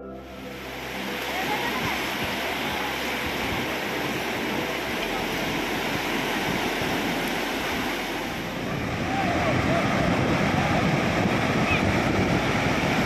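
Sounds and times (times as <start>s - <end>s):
waves breaking on beach: 0.3s - 13.0s.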